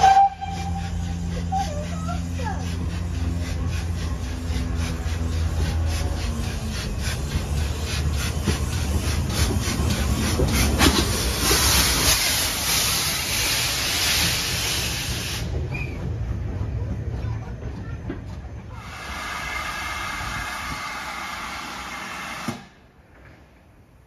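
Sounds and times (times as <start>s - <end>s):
loud steam hiss: 0.0s - 15.7s, 18.8s - 22.8s
steam locomotive rumbling past: 0.0s - 24.0s.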